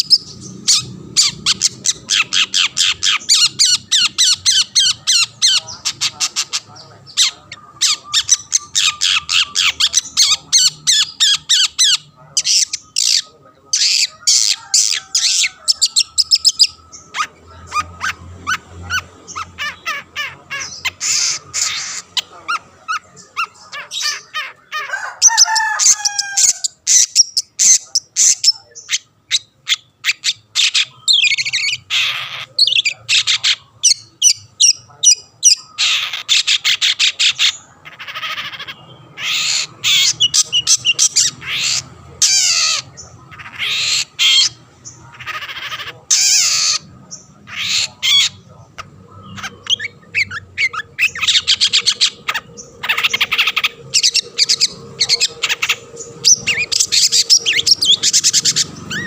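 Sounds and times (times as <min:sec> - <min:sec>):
bird harsh chattering song: 0:00.0 - 0:59.0.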